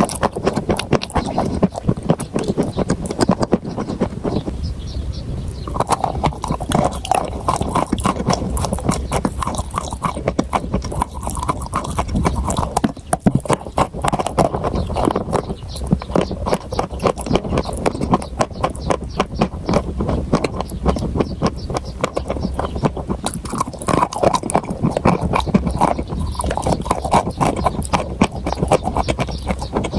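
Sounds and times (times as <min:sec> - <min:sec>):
crunchy food being chewed: 0:00.0 - 0:04.6, 0:05.4 - 0:29.9.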